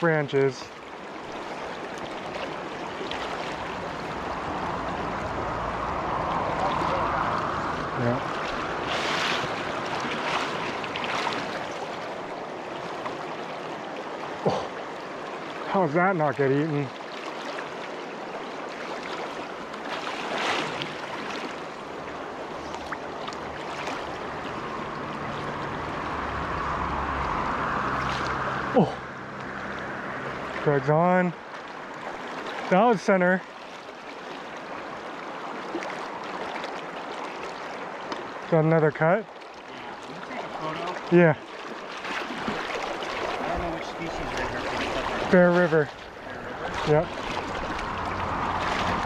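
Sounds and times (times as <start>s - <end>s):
stream running over cobbles: 0.0s - 49.0s.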